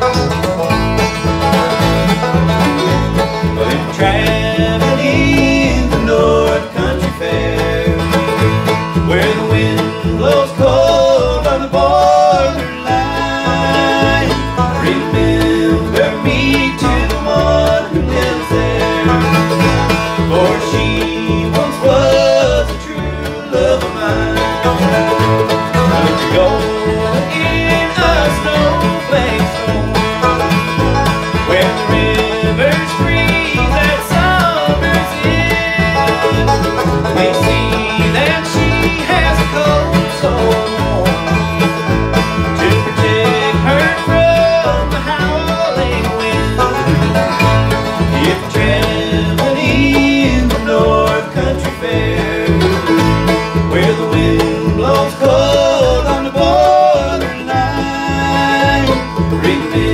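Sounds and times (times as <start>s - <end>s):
acoustic guitar: 0.0s - 59.9s
banjo: 0.0s - 59.9s
mandolin: 0.0s - 59.9s
resonator guitar: 0.0s - 59.9s
upright bass: 0.0s - 59.9s.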